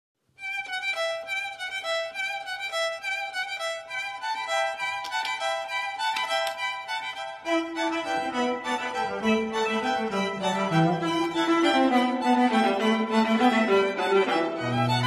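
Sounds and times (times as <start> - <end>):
instrumental music with violin: 0.2 - 15.0.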